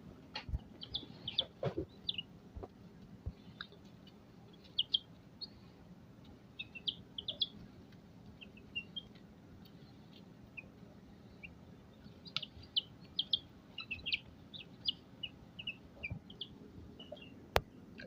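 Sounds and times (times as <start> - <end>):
baby chicks peeping: 0.3 - 18.0.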